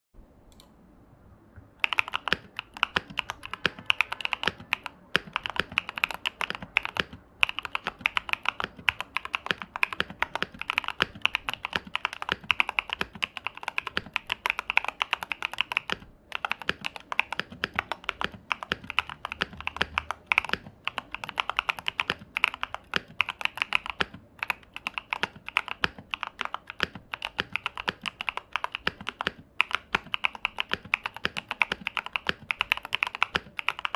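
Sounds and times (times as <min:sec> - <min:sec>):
mechanical keyboard typing: 0:01.8 - 0:33.9.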